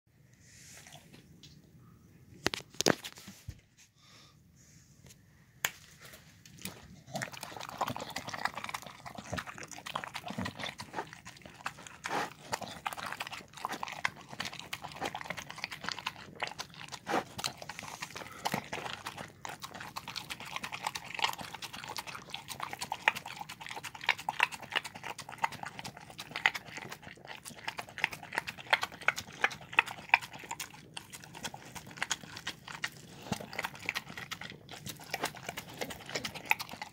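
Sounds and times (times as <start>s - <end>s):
dog eating wet food: 6.1s - 36.9s.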